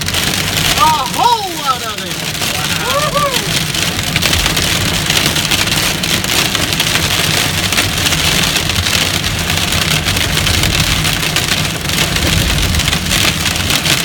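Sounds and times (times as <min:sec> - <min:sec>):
hail and rain on vehicle roof: 0:00.0 - 0:14.0
low steady rumble: 0:00.0 - 0:14.0.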